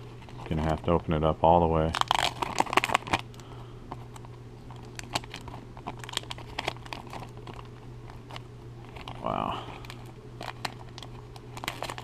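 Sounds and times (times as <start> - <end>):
plastic wrapper crinkling: 0.0 - 1.2, 1.8 - 12.0.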